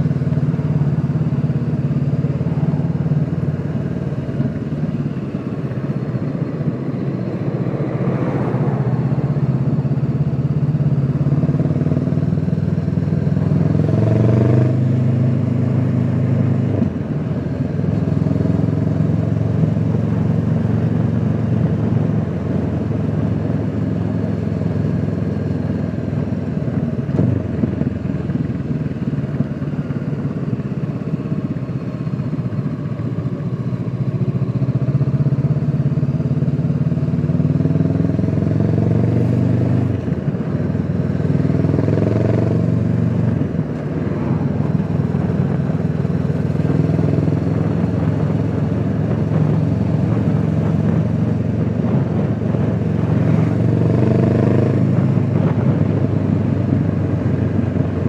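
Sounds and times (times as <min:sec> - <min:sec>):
muffled motorcycle engine revving: 0:00.0 - 0:58.0.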